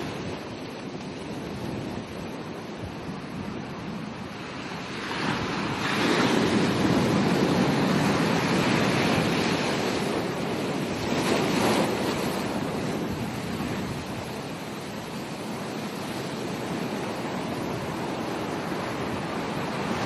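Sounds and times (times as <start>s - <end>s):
ocean surf breaking: 0.0s - 20.0s.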